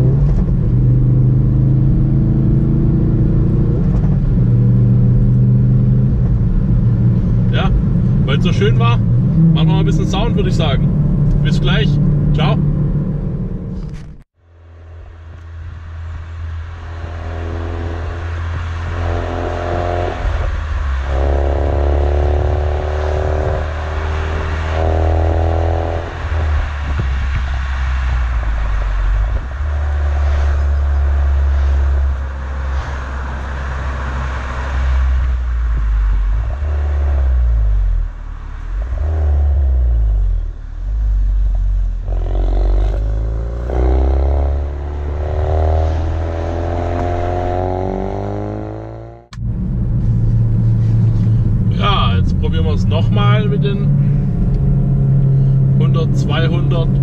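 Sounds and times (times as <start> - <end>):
car exhaust drone and revving: 0.0 - 57.0.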